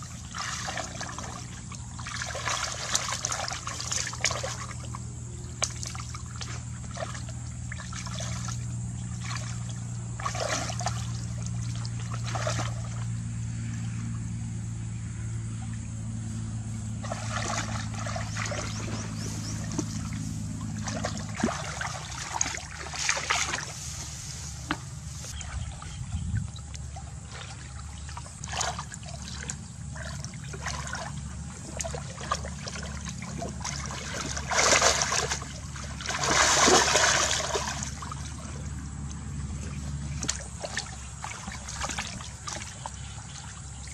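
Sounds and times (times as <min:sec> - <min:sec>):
splashing in muddy water: 0:00.0 - 0:14.3, 0:15.0 - 0:43.9
steady low hum: 0:00.0 - 0:43.9.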